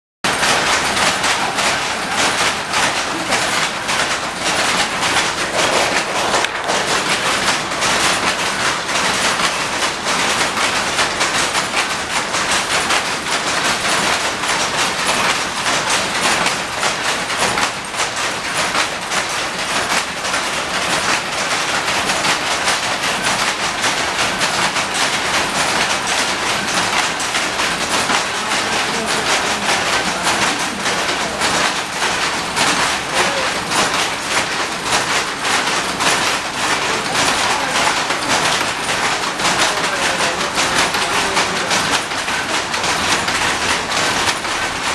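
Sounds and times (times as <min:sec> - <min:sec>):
power looms clattering: 0:00.2 - 0:44.9.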